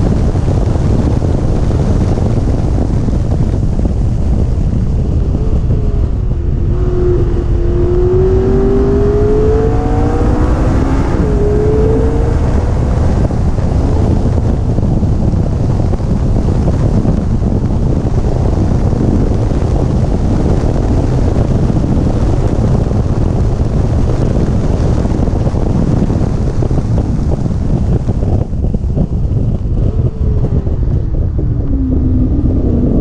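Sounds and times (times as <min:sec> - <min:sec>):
wind buffeting: 0:00.0 - 0:33.0.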